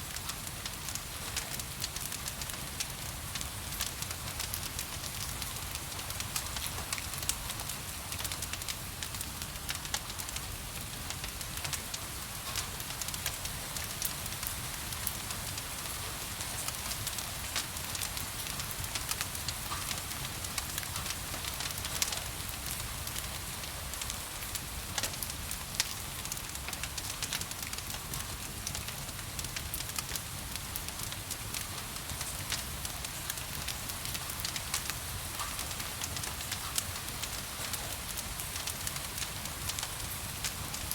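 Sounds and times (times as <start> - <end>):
gentle rain hissing: 0.0 - 40.9
wood fire crackling: 0.1 - 40.9.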